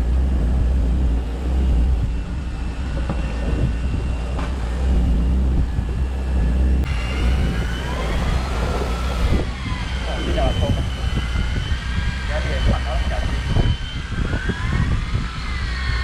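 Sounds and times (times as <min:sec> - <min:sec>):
boat engine running: 0:00.0 - 0:14.0
electric reel whining: 0:00.0 - 0:16.0.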